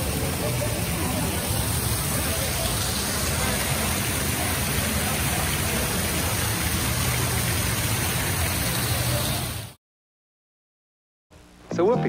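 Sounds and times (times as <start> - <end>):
water pouring down waterfall: 0.0 - 9.8.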